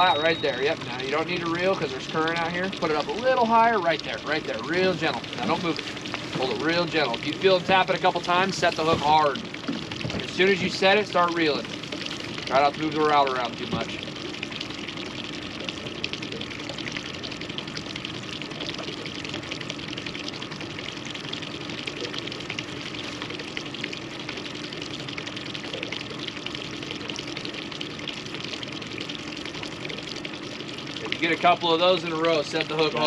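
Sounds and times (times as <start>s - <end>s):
water splashing against hull: 0.0s - 33.0s.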